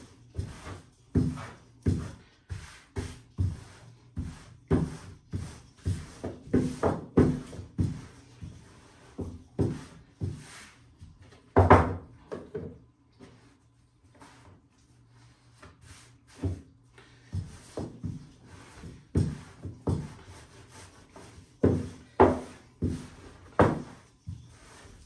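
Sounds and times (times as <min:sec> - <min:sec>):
rolling pin rolling dough: 0:00.0 - 0:13.5, 0:15.2 - 0:25.0.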